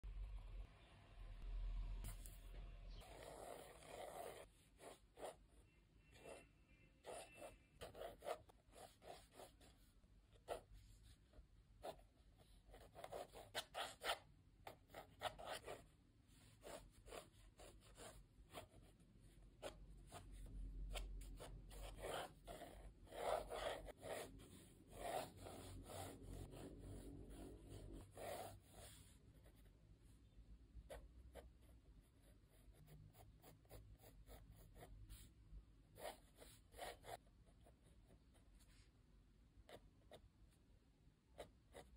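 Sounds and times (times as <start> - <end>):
pencil scratching on paper: 3.0 - 29.7, 30.9 - 35.4, 36.0 - 38.9, 41.4 - 41.9.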